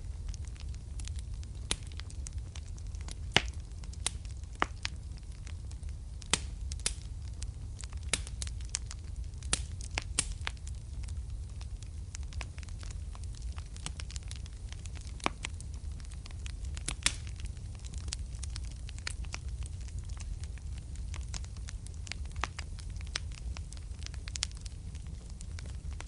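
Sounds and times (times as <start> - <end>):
fire crackling and popping: 0.0 - 26.0
flames rumbling: 0.0 - 26.0.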